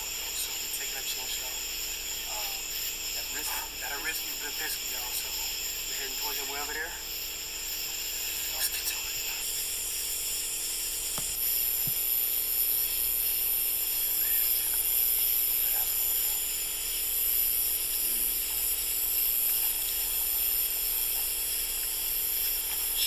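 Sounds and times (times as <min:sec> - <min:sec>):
night insects chorus: 0:00.0 - 0:23.0.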